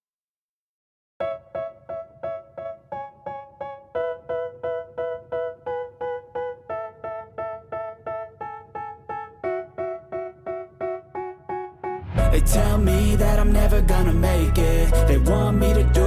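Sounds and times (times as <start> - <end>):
keyboard playing repeated chords: 1.2 - 16.0.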